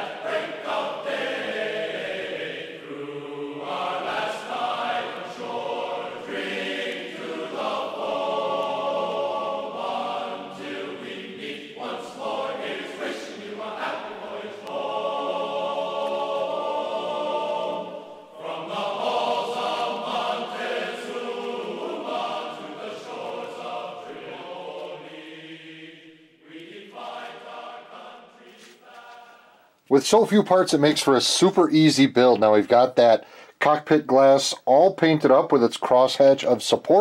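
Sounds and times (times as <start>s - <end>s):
choir-like singing music: 0.0s - 29.9s.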